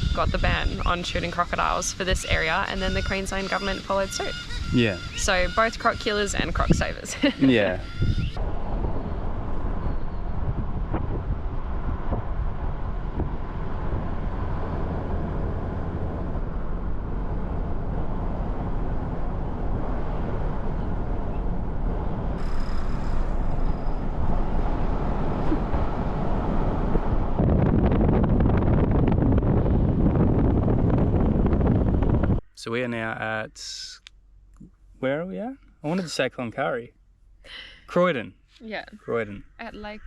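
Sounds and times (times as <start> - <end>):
wind buffeting microphone: 0.0 - 32.4
vehicle engine and road rumble: 0.0 - 40.0.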